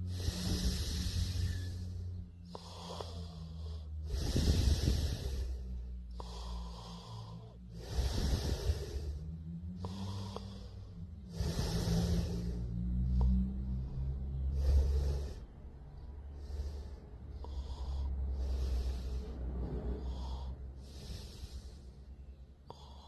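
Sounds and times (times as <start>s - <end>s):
person snoring: 0.0s - 15.6s, 16.3s - 21.9s, 22.6s - 23.0s
breathy hisses: 0.0s - 23.0s
steady low hum: 0.0s - 23.0s.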